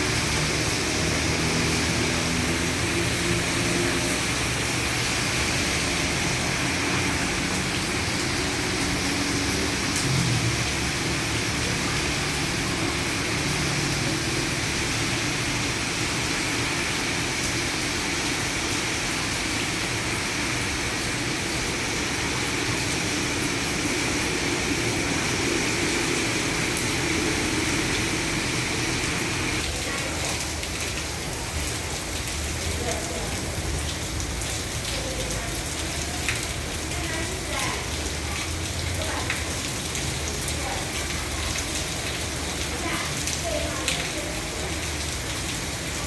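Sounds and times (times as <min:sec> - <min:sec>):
heavy rain: 0:00.0 - 0:46.0
water pouring off roof: 0:00.0 - 0:46.0.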